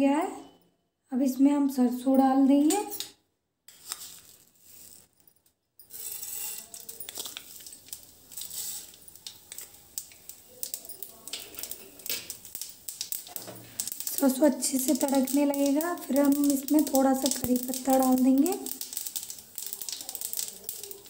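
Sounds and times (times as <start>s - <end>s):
seeds sizzling and popping in oil: 2.6s - 5.2s, 5.8s - 21.0s.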